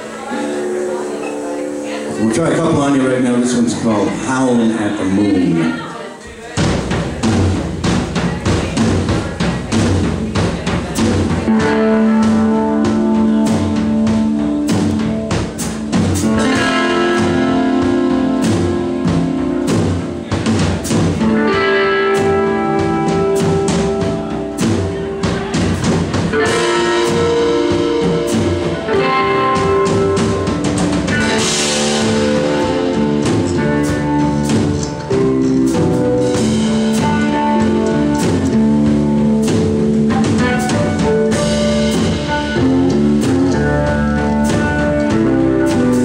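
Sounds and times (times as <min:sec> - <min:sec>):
electric guitar: 0:00.0 - 0:05.9, 0:06.6 - 0:46.0
bass: 0:00.0 - 0:46.0
drums: 0:00.0 - 0:46.0
piano: 0:00.0 - 0:46.0.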